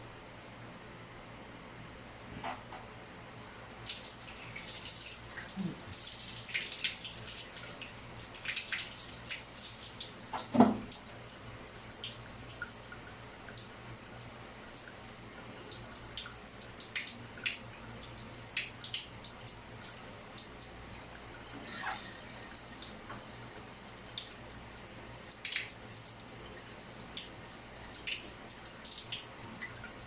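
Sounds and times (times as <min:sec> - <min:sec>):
shower water dripping and splashing: 0:03.8 - 0:30.0.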